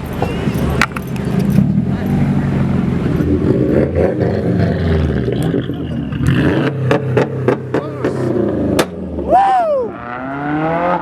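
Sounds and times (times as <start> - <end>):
car engine revving: 0.0 - 9.3, 9.9 - 11.0.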